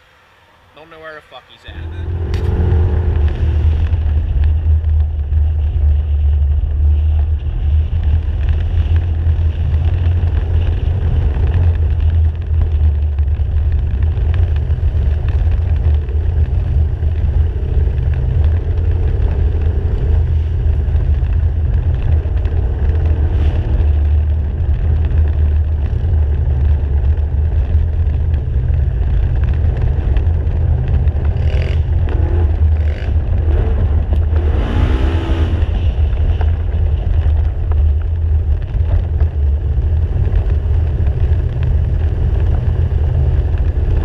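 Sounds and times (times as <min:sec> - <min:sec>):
atv engine rumble: 0:00.0 - 0:44.0.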